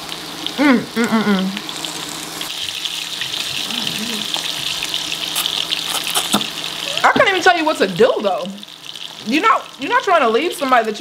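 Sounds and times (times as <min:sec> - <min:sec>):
meat sizzling on grill plate: 0:00.0 - 0:11.0.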